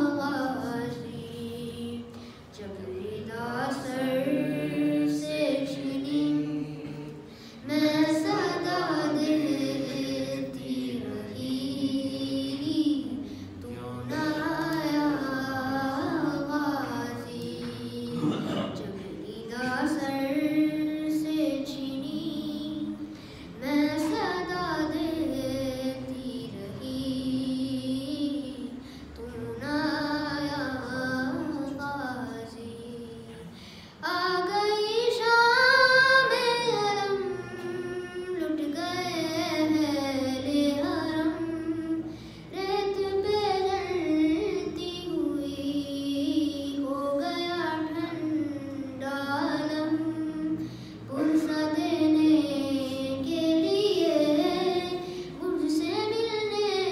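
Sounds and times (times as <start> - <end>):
boy singing unaccompanied: 0.0 - 56.9.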